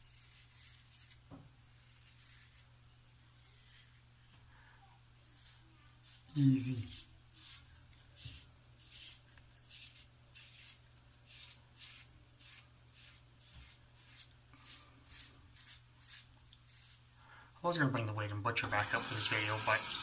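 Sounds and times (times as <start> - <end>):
razor scraping stubble: 0.0 - 4.3, 5.3 - 17.1.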